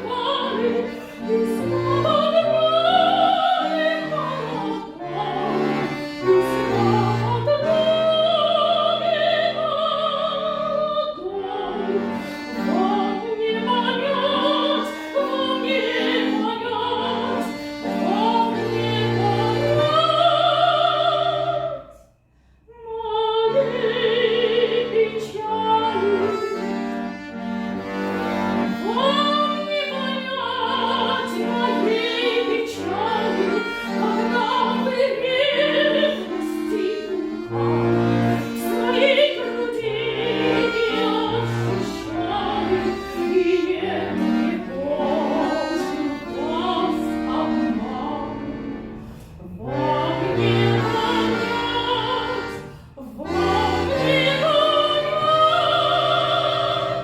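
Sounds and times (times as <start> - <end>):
classical voice singing with vibrato: 0.0 - 22.0, 22.7 - 57.0
sustained instrumental chords: 0.0 - 57.0.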